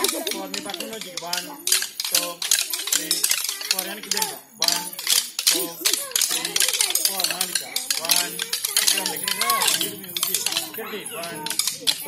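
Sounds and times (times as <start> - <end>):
group voices chanting: 0.0 - 12.0
wooden sticks clacking: 0.0 - 12.0.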